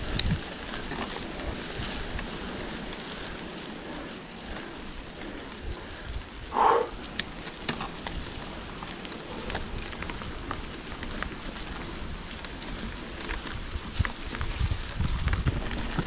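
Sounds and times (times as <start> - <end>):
bicycle tyres rolling: 0.0 - 16.0
rustle: 0.0 - 16.0.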